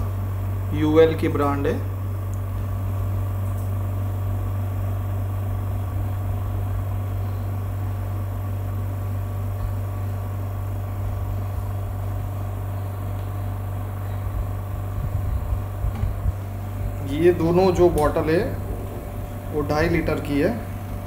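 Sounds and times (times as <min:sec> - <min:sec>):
suction pump humming: 0:00.0 - 0:21.0.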